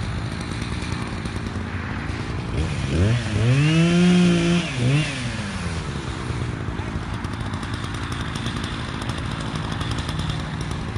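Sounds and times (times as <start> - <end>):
chainsaw idling and revving: 0.0 - 10.9.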